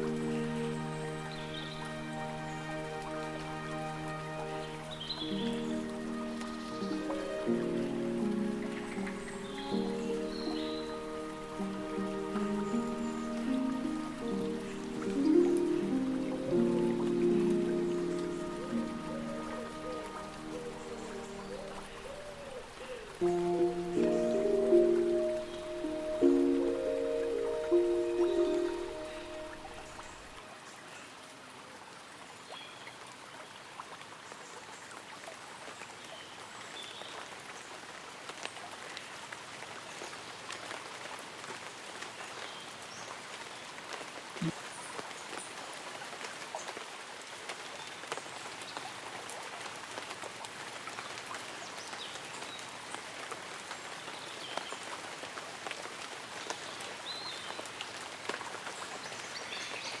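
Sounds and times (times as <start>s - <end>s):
light rain on leaves and umbrella: 0.0s - 60.0s.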